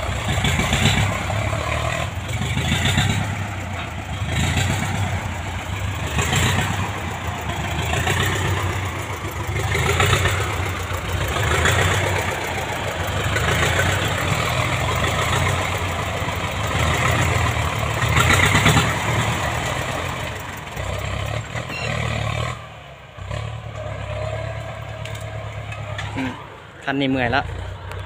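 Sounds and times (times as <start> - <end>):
tractor diesel engine under load: 0.0 - 28.0
tractor pushing through brush: 0.0 - 28.0.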